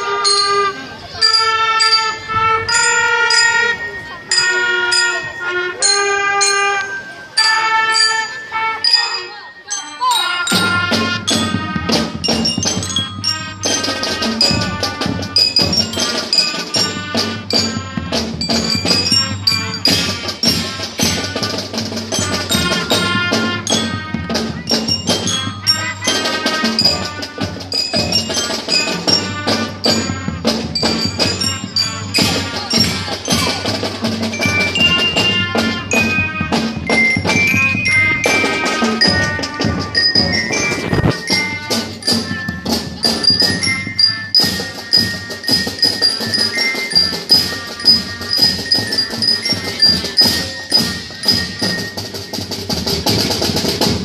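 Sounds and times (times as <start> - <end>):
drum and percussion strikes: 0.0 - 9.3, 10.0 - 54.0
marching band playing: 0.0 - 54.0.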